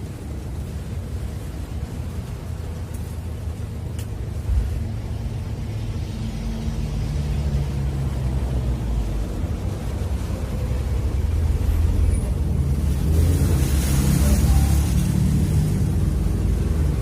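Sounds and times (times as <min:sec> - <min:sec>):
traffic rumble on bridge: 0:00.0 - 0:17.0
vehicle engine: 0:00.0 - 0:17.0.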